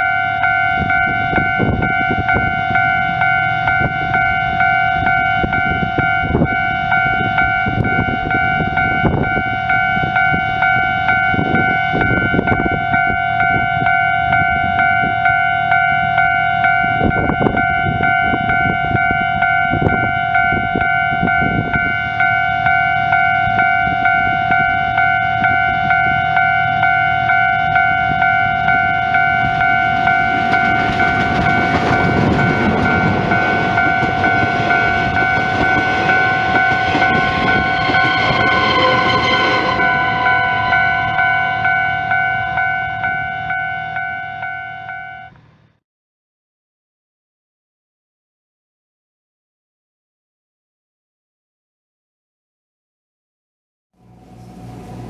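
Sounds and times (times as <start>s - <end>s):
level-crossing warning bell ringing: 0.0s - 45.4s
train horn: 0.0s - 45.4s
train rumble: 0.0s - 45.8s, 54.0s - 55.0s.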